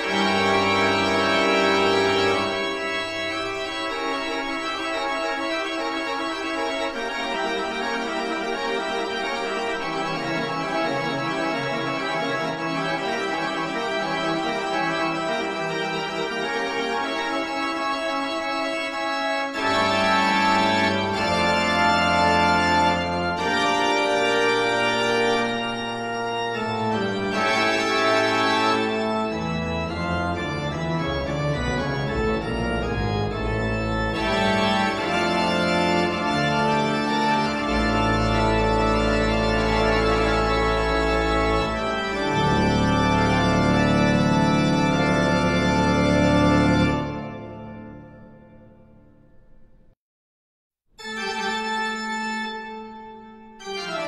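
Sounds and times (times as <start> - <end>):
slow organ music: 0.0 - 50.0, 51.0 - 54.0.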